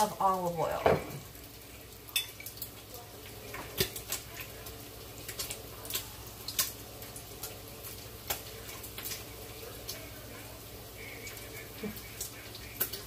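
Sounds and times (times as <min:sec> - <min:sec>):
bacon frying pops: 0:00.0 - 0:13.0.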